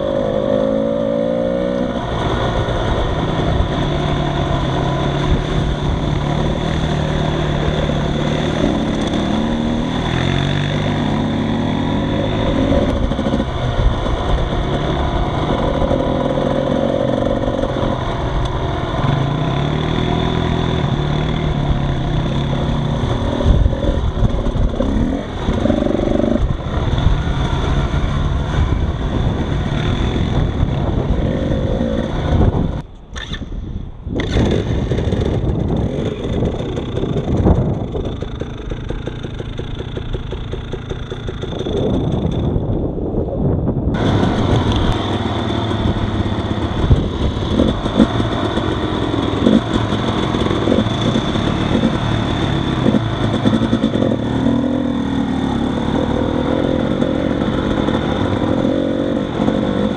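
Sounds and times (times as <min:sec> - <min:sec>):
off-road vehicle engine under load: 0:00.0 - 0:59.9
wind noise: 0:00.0 - 0:59.9.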